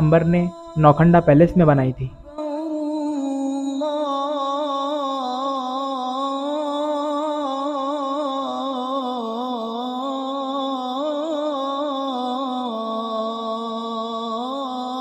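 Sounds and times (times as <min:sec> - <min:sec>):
call to prayer sung by one voice: 0:00.0 - 0:15.0.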